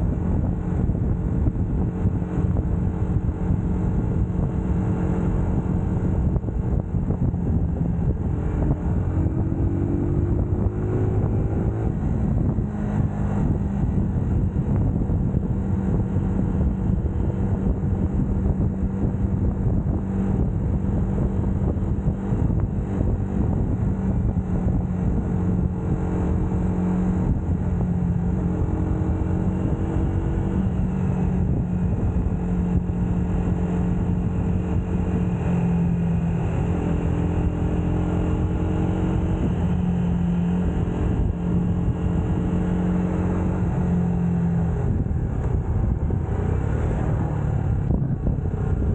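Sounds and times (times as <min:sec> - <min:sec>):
motorcycle engine running: 0:00.0 - 0:48.9
wind rumble on microphone: 0:00.0 - 0:48.9.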